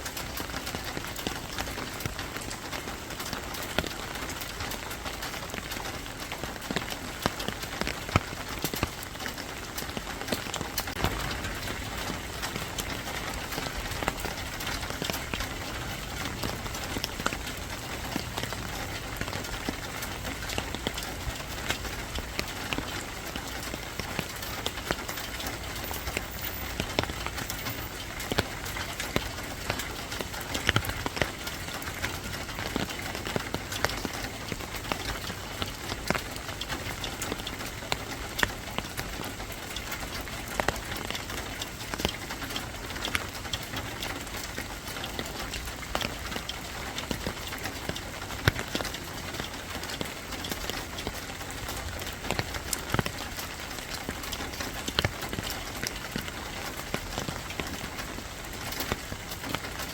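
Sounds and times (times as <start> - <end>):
rain falling: 0.0 - 59.9
drops ticking on hard surface: 6.5 - 59.9.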